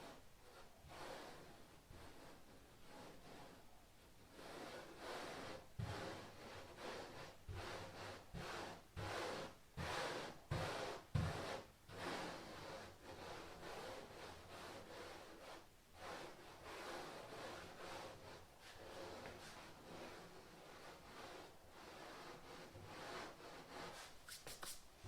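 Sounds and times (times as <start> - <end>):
scratchy rubbing strokes: 0.0 - 25.0.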